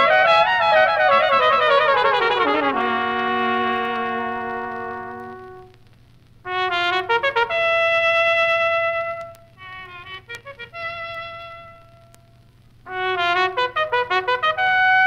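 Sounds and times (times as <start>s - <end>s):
brass band chord: 0.0s - 5.8s, 6.5s - 12.1s, 12.9s - 15.0s
cornet playing: 0.0s - 15.0s.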